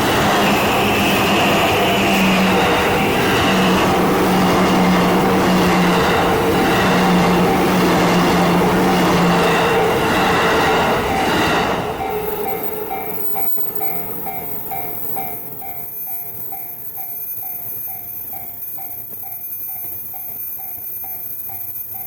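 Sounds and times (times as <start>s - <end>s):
electric train passing: 0.0s - 22.0s
level crossing warning bell: 0.0s - 22.0s.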